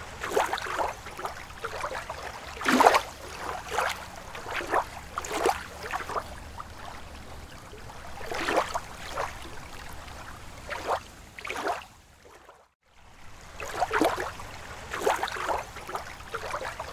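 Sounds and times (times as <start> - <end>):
water rippling and splashing: 0.0 - 16.9.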